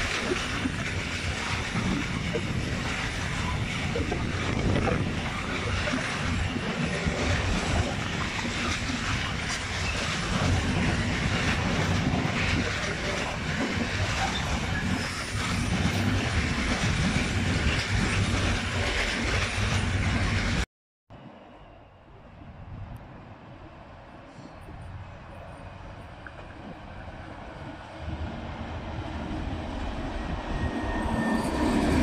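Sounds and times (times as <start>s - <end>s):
train wagons rumbling on rails: 0.0s - 20.7s, 22.6s - 32.0s.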